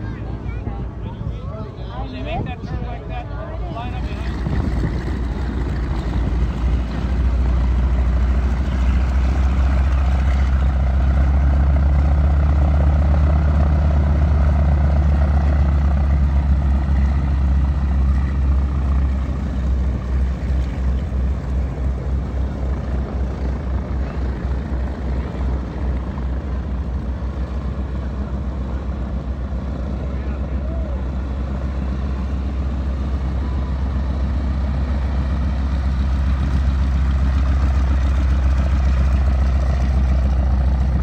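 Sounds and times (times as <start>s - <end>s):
radial aircraft engine droning: 0.0s - 41.0s.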